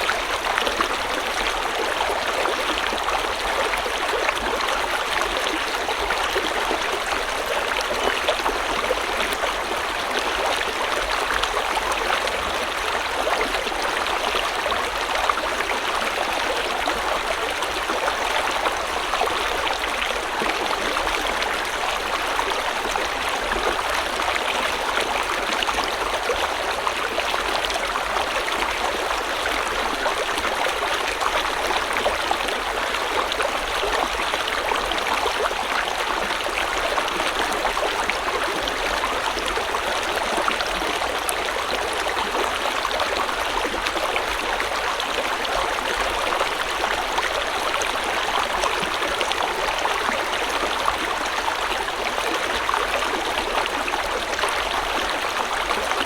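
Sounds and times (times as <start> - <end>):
stream water flowing over stones: 0.0 - 56.0.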